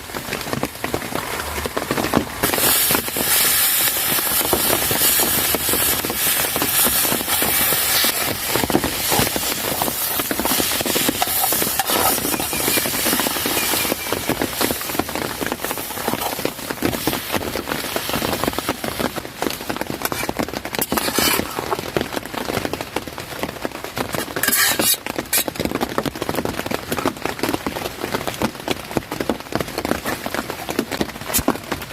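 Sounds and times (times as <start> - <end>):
heavy rain on a tent: 0.0 - 31.9.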